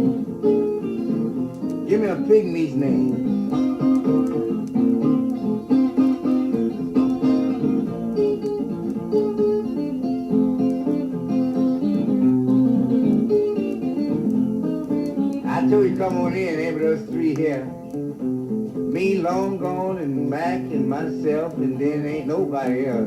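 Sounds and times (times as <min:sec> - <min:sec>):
blues guitar playing: 0:00.0 - 0:23.0.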